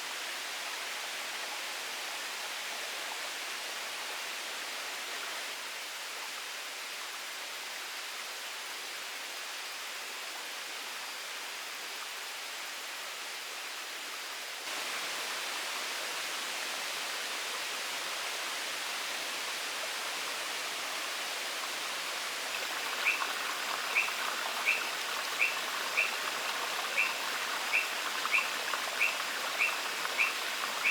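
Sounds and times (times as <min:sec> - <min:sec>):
rainforest hiss: 0:00.0 - 0:30.9.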